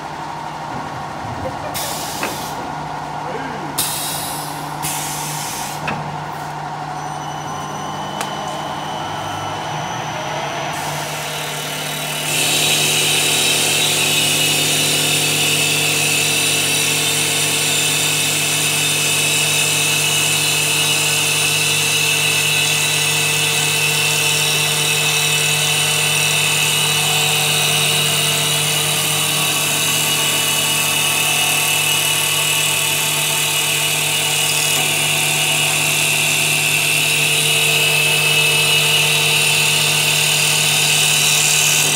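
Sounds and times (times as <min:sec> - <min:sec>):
high-pitched lathe cutting whine: 0:06.6 - 0:41.9.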